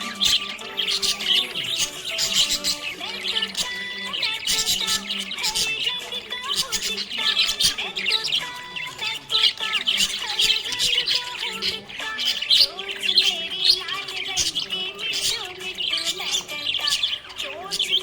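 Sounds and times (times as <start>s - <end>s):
budgerigars chirping and chattering: 0.0s - 18.0s.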